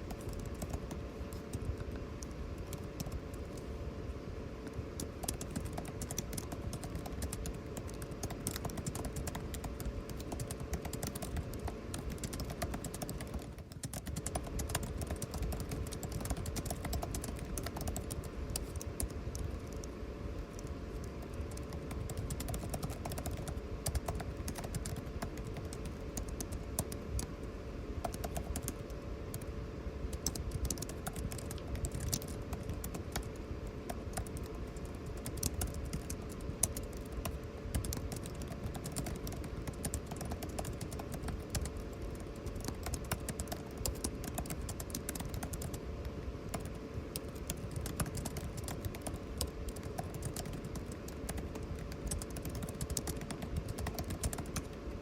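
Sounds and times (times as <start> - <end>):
typing on computer keyboard: 0.0 - 3.7, 5.0 - 27.3, 28.0 - 29.5, 30.1 - 54.8
air conditioning hum: 0.0 - 55.0.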